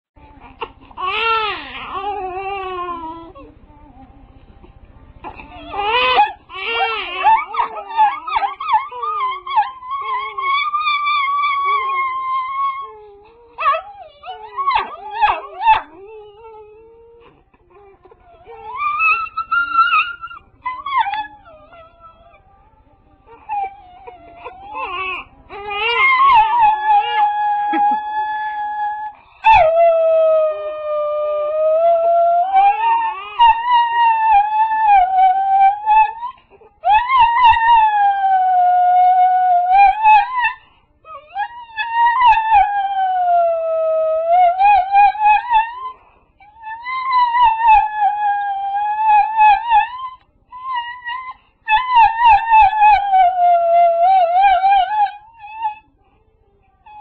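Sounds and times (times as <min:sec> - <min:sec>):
dog howling: 0:05.3 - 0:17.3, 0:18.0 - 0:22.6, 0:23.3 - 0:55.9.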